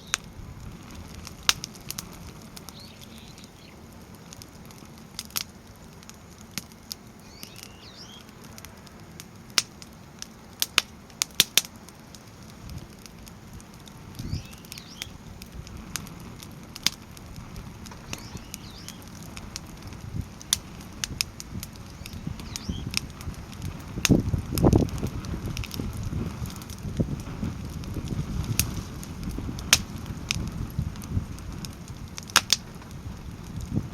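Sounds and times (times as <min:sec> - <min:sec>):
firewood crackling and popping: 0:00.0 - 0:33.9
flame rushing: 0:00.0 - 0:33.9.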